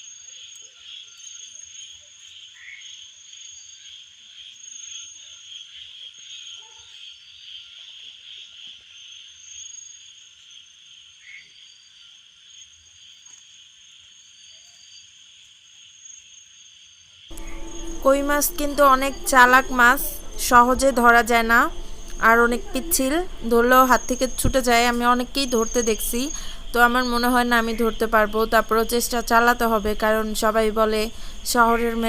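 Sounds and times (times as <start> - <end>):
faint frog calls: 0.0 - 32.0
insects trilling: 0.0 - 32.0.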